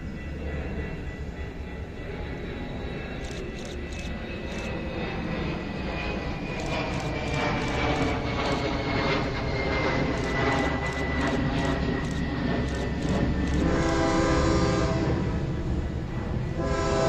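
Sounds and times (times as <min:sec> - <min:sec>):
high steady whine: 0:00.0 - 0:17.0
train low rumble: 0:00.0 - 0:17.0.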